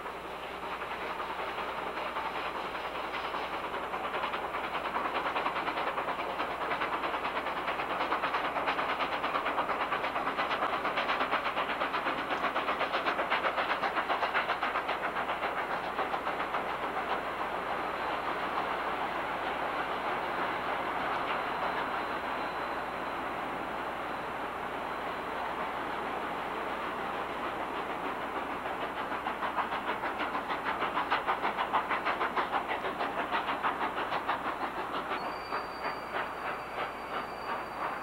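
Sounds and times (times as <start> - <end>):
steam locomotive chugging and hissing: 0.0 - 38.0.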